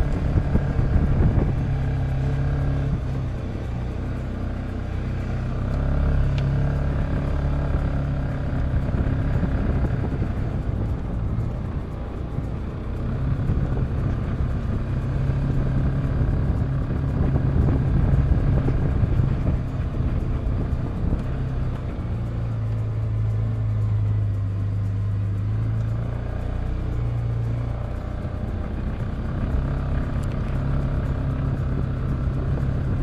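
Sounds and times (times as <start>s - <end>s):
utility vehicle engine running: 0.0s - 33.0s.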